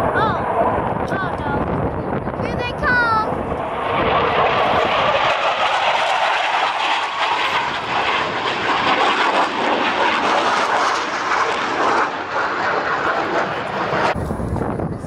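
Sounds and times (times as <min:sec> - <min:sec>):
jet flying past overhead: 0:00.0 - 0:15.0.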